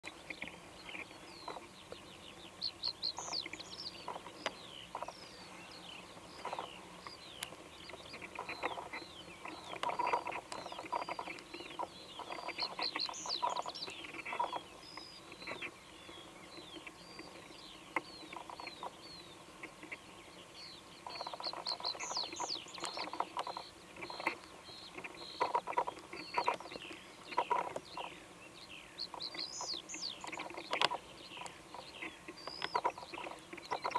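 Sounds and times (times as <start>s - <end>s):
birds chirping and whistling: 0.1s - 33.9s.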